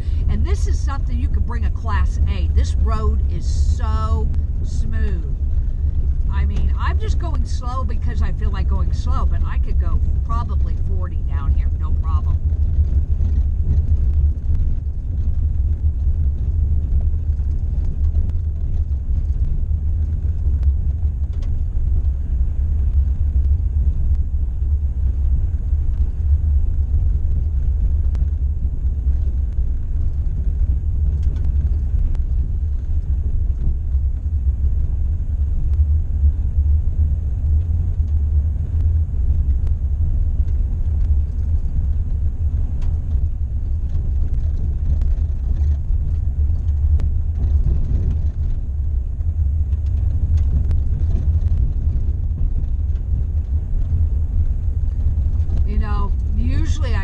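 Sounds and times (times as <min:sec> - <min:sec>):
van engine and tyre rumble: 0:00.0 - 0:57.0.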